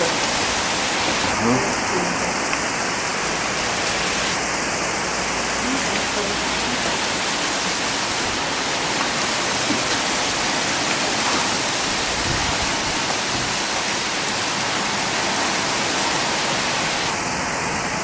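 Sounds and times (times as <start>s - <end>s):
torrential rain pouring: 0.0s - 18.0s.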